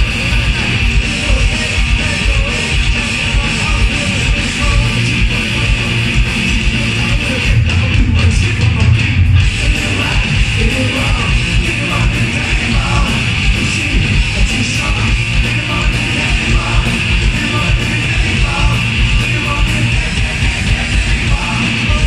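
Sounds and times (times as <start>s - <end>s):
bass guitar: 0.0s - 22.0s
distorted electric guitars: 0.0s - 22.0s
drums: 0.0s - 22.0s.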